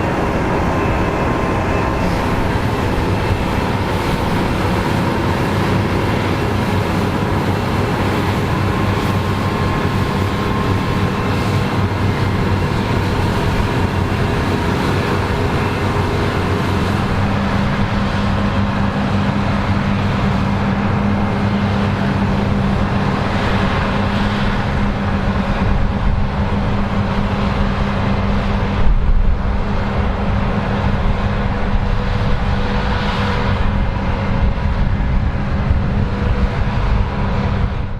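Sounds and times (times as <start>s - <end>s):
combine harvester running: 0.0s - 37.9s.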